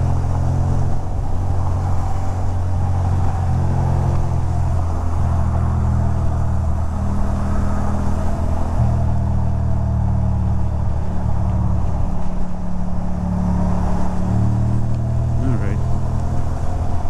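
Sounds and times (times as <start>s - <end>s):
motorcycle engine cruising: 0.0s - 17.0s
tyre noise on wet road: 0.0s - 17.0s.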